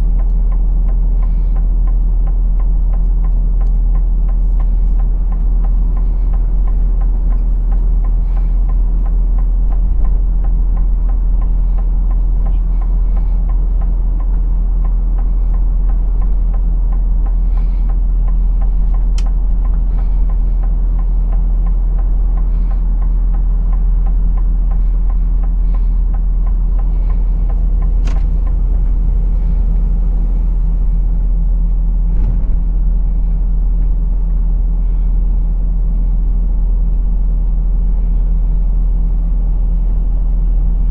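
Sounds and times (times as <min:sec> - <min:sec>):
lorry engine drone in cab: 0:00.0 - 0:40.9
road noise: 0:00.0 - 0:40.9.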